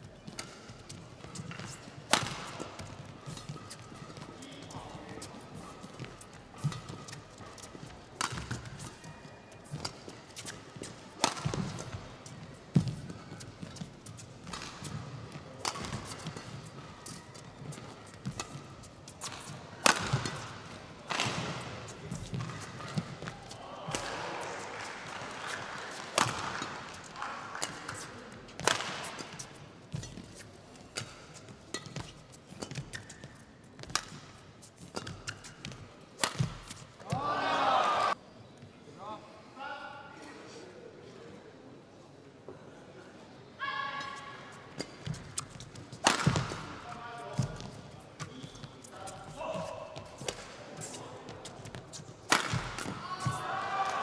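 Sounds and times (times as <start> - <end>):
racket hitting shuttlecock: 0.3 - 4.4, 5.0 - 24.5, 25.9 - 37.2, 44.8 - 54.0.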